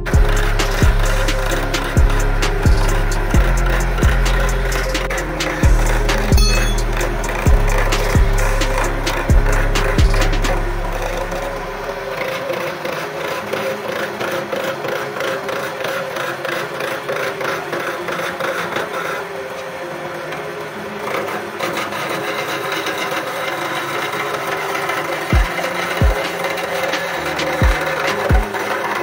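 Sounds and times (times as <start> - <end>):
chisel scraping spinning wood: 0.0 - 29.0
lathe motor hum: 0.0 - 29.0.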